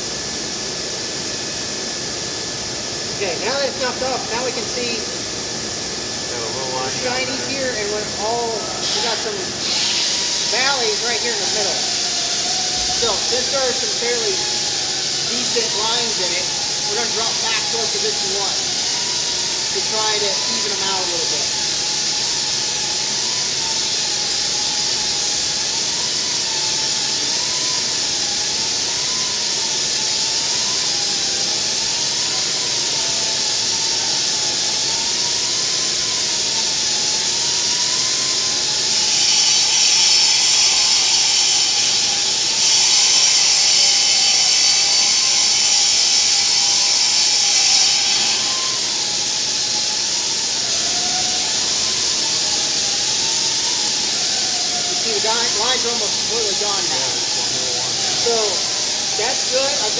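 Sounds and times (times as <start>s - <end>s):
spindle whine: 2.6s - 59.9s.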